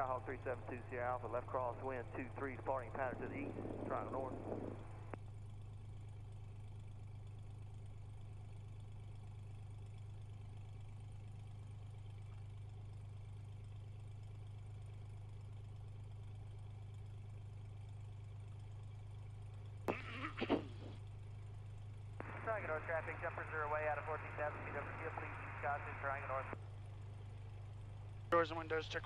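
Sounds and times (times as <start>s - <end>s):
aircraft engine and propeller droning: 0.0s - 29.0s.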